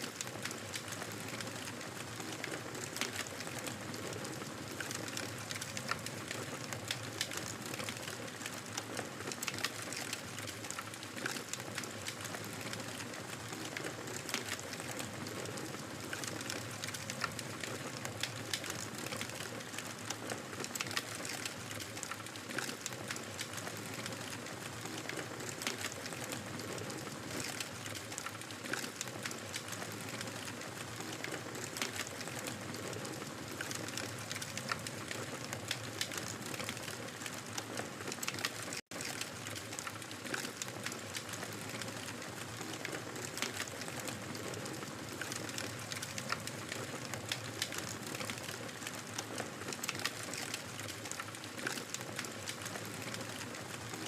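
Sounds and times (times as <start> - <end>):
fire crackling: 0.1 - 54.0.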